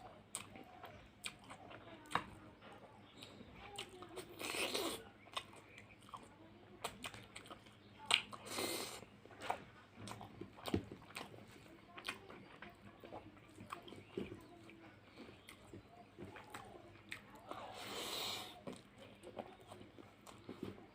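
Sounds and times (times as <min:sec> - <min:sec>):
close chewing with mouth clicks: 0:00.0 - 0:20.9.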